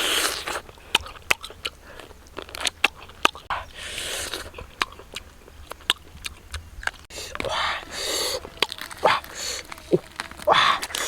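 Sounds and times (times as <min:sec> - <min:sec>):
person chewing crunchy food: 0:00.0 - 0:11.0
wet mouth clicks: 0:00.0 - 0:11.0.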